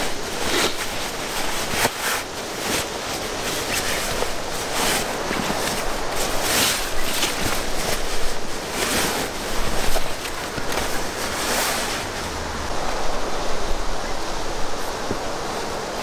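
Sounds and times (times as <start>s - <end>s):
nylon fabric rustling: 0.0s - 13.1s.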